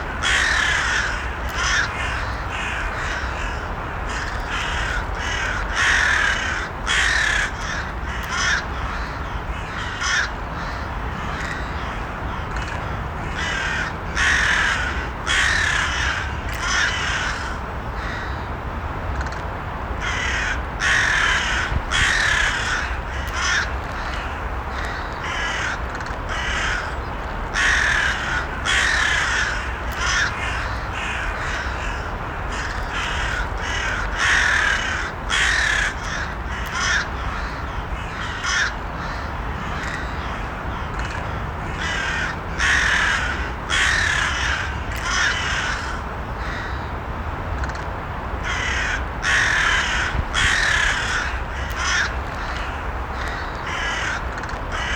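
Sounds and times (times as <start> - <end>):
crows cawing: 0.0 - 18.5, 20.0 - 46.9, 48.4 - 54.9
low background noise: 0.0 - 54.9.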